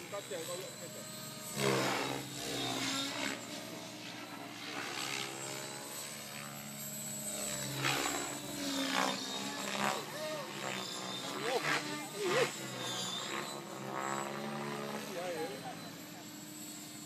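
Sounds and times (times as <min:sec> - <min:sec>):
electric motor whine: 0:00.0 - 0:17.0
helicopter rotor blades whirring: 0:00.0 - 0:17.0.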